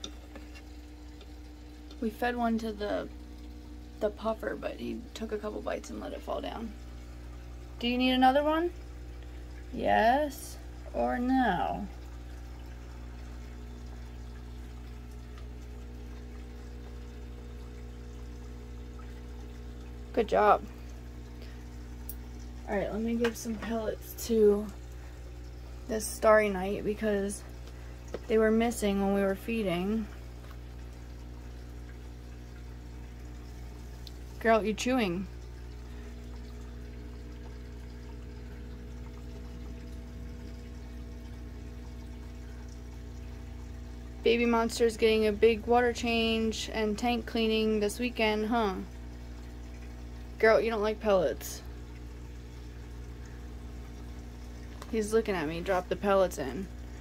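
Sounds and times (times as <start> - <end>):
low electric hum: 0.0 - 57.0
water bubbling from air stone: 0.0 - 57.0.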